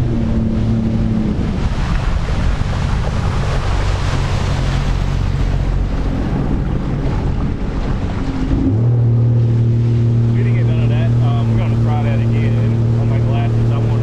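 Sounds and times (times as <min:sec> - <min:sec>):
jet ski engine drone: 0:00.0 - 0:14.0
wind rushing on microphone: 0:00.0 - 0:14.0.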